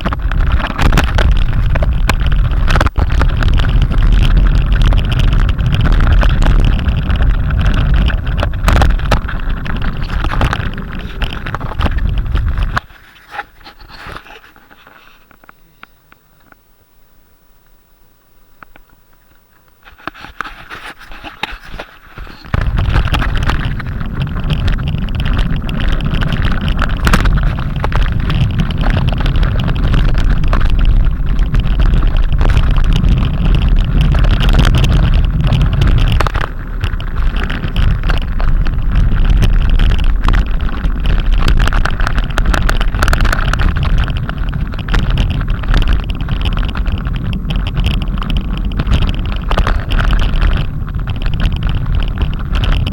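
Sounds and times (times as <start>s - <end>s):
wind buffeting microphone: 0.0s - 14.8s, 19.9s - 52.9s.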